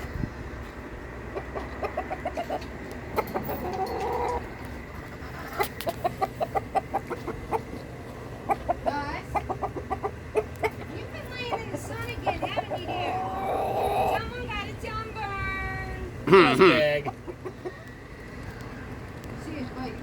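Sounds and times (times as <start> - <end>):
chickens clucking: 0.8 - 14.6, 16.2 - 19.2.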